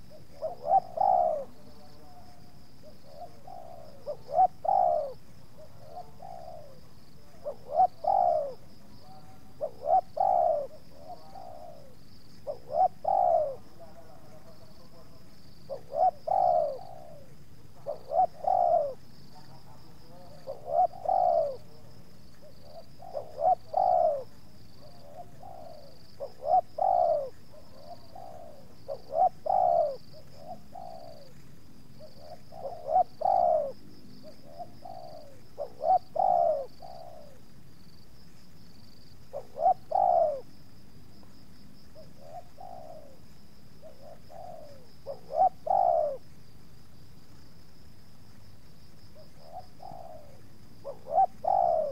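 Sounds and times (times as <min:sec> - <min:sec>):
dove cooing: 0:00.0 - 0:38.0, 0:38.7 - 0:46.4, 0:48.9 - 0:51.9.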